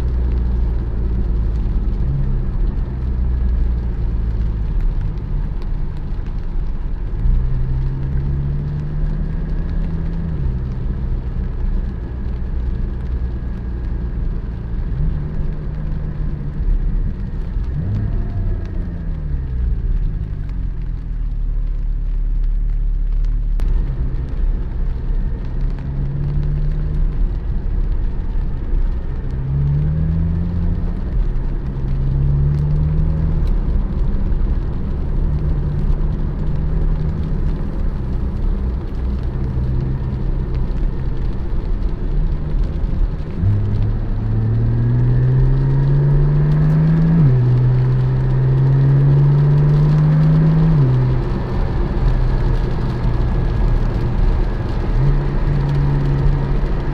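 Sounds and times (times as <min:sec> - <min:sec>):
car engine revving while driving: 0:00.0 - 0:56.9.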